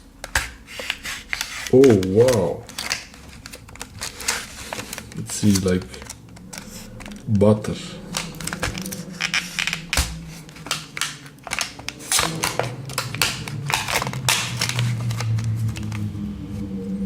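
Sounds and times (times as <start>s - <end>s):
low steady hum: 0.0s - 17.0s
knife cutting packaging: 0.2s - 16.1s.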